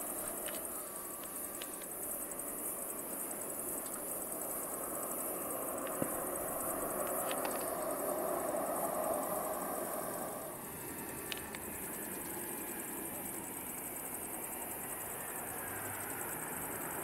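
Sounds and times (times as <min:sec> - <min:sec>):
distant engine rumble: 0:00.0 - 0:17.0
insects chirring: 0:00.0 - 0:17.0.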